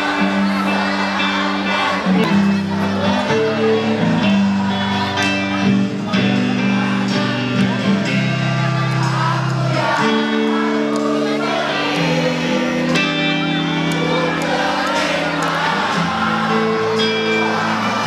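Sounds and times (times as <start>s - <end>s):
music with singing: 0.0s - 18.0s.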